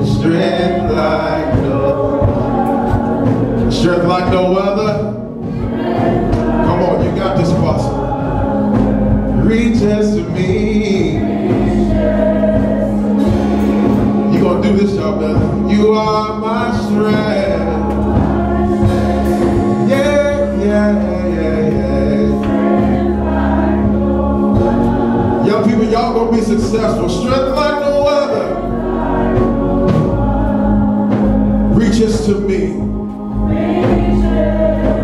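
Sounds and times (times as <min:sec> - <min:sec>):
choir singing gospel music: 0:00.0 - 0:35.0
instrumental backing with bass line: 0:00.0 - 0:35.0.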